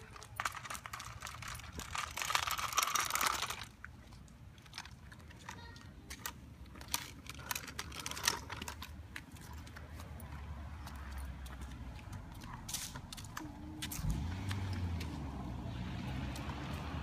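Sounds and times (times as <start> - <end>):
scooter wheels crunching on asphalt: 0.0 - 17.0.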